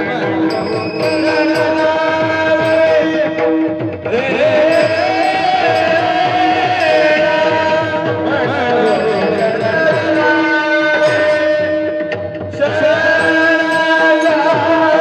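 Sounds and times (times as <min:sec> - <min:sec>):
hand drum rhythm: 0:00.0 - 0:15.0
harmonium chords: 0:00.0 - 0:15.0.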